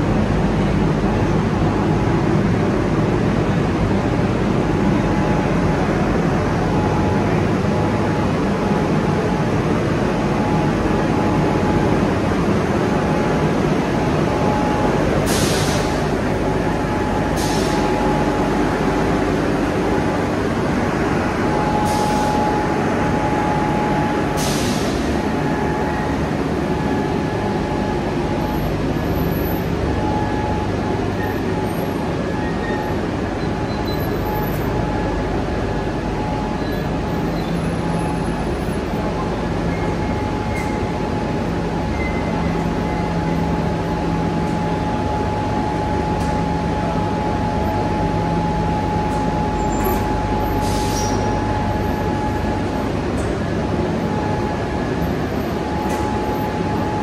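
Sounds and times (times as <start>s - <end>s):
industrial furnace rumble: 0.0s - 57.0s.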